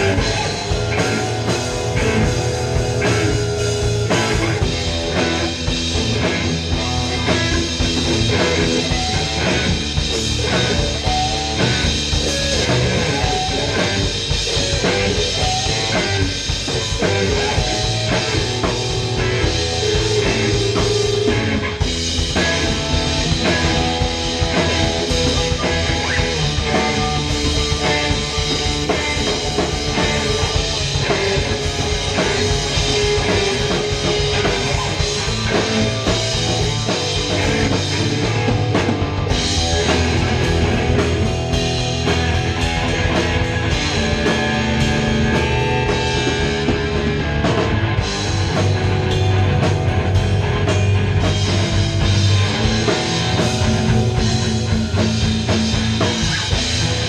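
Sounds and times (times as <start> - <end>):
distorted electric guitars: 0.0 - 57.0
drum kit with crashing cymbals: 0.0 - 57.0.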